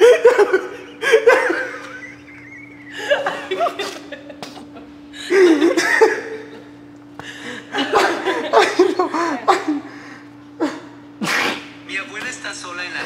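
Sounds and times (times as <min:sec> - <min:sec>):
people laughing: 0:00.0 - 0:11.0
low hum: 0:00.0 - 0:11.2.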